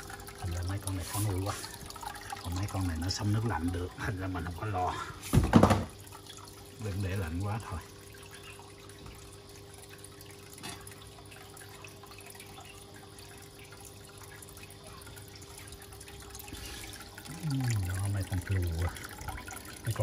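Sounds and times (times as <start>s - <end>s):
aquarium water trickling and dripping: 0.0s - 20.0s.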